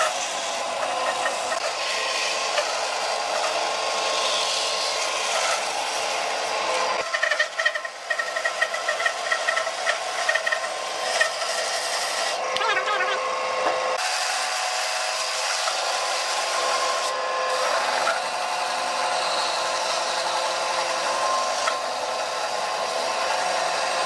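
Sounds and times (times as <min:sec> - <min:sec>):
tool rasping on wood: 0:00.0 - 0:14.1, 0:14.8 - 0:24.0.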